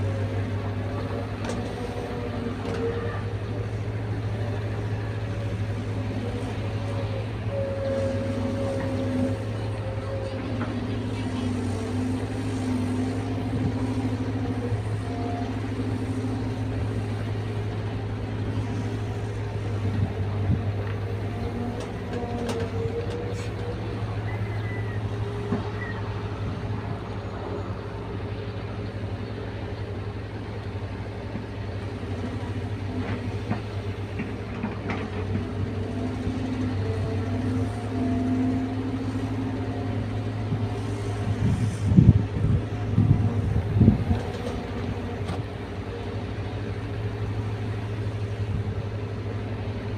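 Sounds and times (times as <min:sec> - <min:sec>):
excavator diesel engine: 0:00.0 - 0:49.9.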